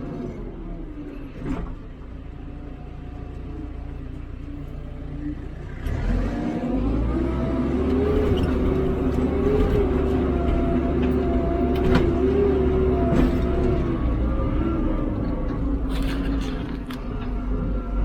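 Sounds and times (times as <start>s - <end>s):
backhoe diesel engine revving: 3.0s - 18.0s.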